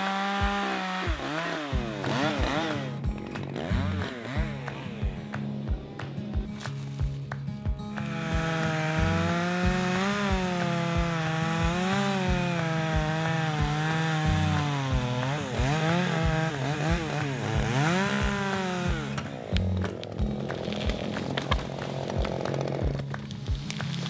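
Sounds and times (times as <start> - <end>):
chainsaw cutting into tree trunk: 0.0 - 5.6, 8.0 - 24.0
background music bass beat: 0.2 - 23.9.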